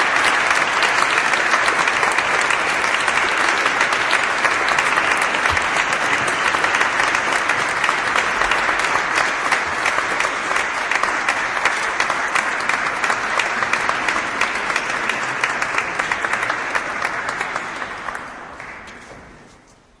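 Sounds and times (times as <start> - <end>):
large crowd applauding: 0.0 - 19.5.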